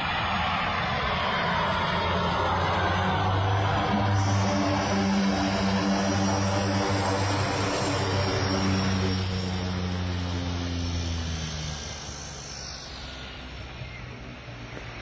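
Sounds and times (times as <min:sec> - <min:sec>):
faint turbine whine: 0:00.0 - 0:15.0
propeller drone: 0:00.0 - 0:15.0.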